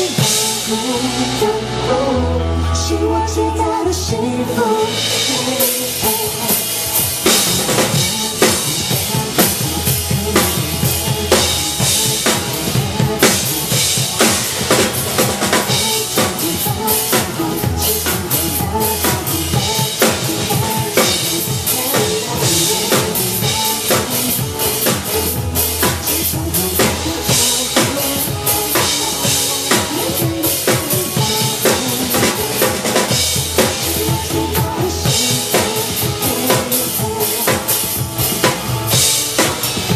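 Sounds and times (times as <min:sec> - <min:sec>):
backing music with bass: 0:00.0 - 0:39.9
drum kit played fast: 0:00.0 - 0:39.9.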